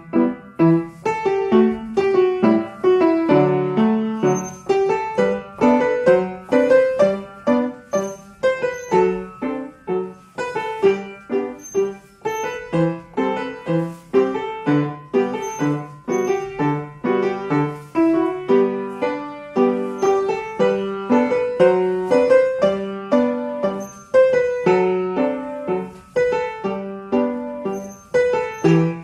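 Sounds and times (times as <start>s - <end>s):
rhythmic piano chords: 0.0s - 29.0s.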